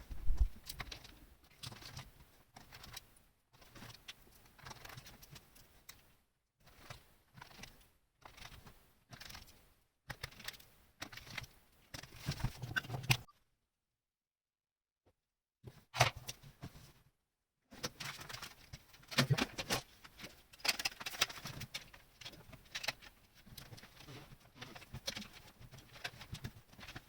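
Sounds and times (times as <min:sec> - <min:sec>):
plastic parts clicking and rattling: 0:00.1 - 0:06.0, 0:06.7 - 0:13.2, 0:17.7 - 0:27.0.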